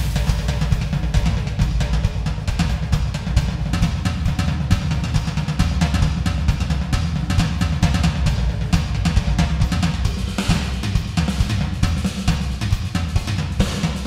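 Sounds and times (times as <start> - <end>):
electronic drum kit: 0.0 - 14.0
heavy low end: 0.0 - 14.0.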